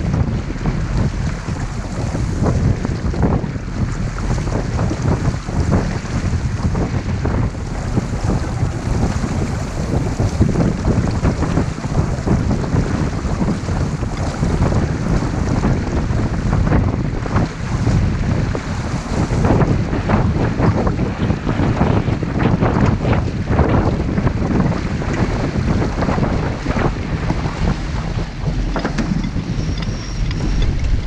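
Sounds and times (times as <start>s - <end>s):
water rushing along a hull: 0.0s - 31.0s
wind buffeting microphone: 0.0s - 31.0s.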